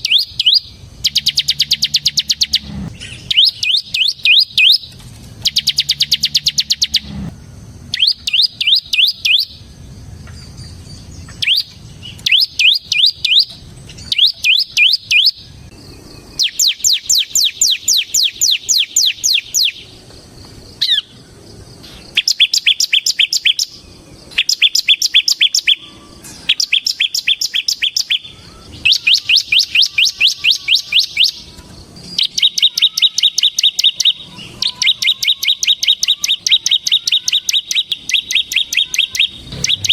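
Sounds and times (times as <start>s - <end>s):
bird trilling: 0.0s - 7.3s, 7.9s - 9.7s, 10.6s - 20.0s, 20.7s - 39.9s.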